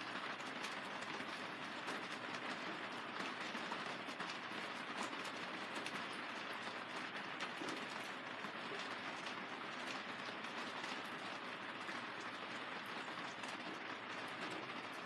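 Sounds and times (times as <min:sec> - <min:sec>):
rain on plastic film: 0:00.0 - 0:15.0.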